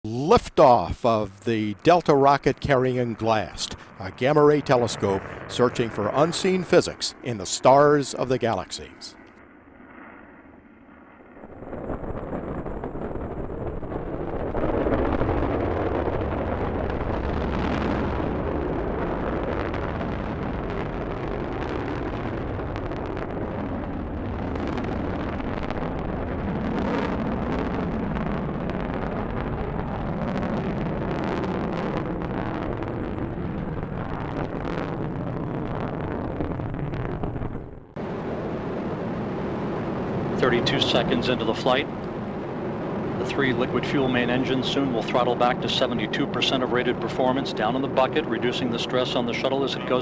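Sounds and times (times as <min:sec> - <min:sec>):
rocket engine crackle: 0:00.0 - 0:50.0
rocket engines rumbling: 0:00.0 - 0:50.0.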